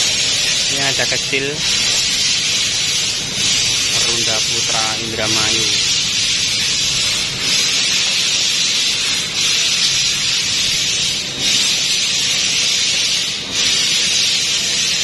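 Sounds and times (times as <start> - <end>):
laser cutter gas hissing: 0.0 - 15.0.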